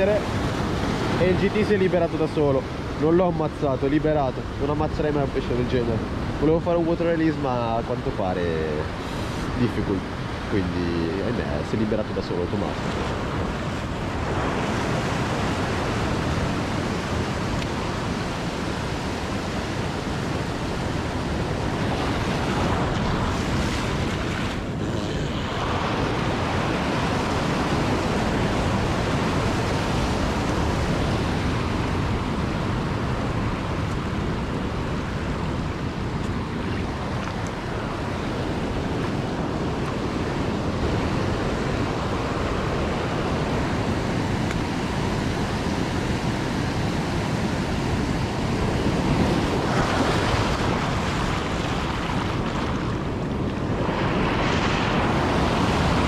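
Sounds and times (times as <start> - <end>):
wind rumbling on microphone: 0.0 - 7.2, 7.9 - 56.0
surf washing over rocks: 0.0 - 56.0.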